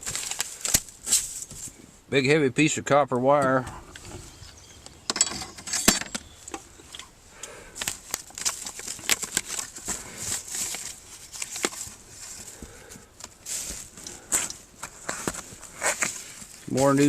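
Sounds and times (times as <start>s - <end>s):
hands rummaging through tools: 0.0s - 1.7s, 3.4s - 17.0s.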